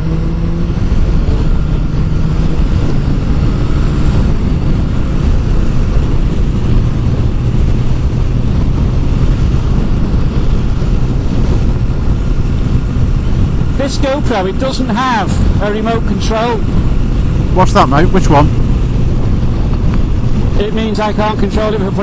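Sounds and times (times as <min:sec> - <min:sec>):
motorcycle engine running: 0:00.0 - 0:22.0
road noise: 0:00.0 - 0:22.0.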